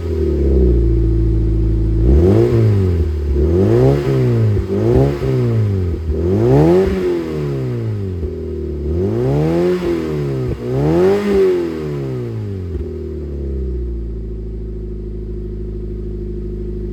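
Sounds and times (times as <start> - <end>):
car engine idling: 0.0 - 16.9
car engine revving: 0.0 - 16.9.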